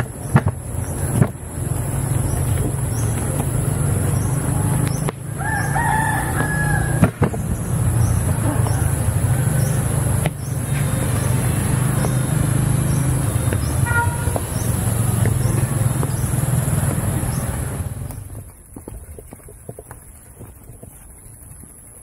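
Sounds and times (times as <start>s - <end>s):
vehicle rumbling in motion: 0.0s - 22.0s.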